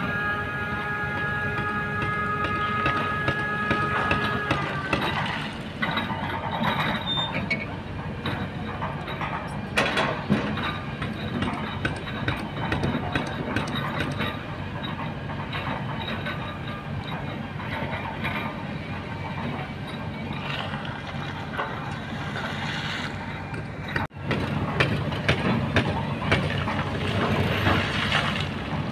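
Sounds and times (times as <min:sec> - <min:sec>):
excavator diesel engine: 0:00.0 - 0:28.9.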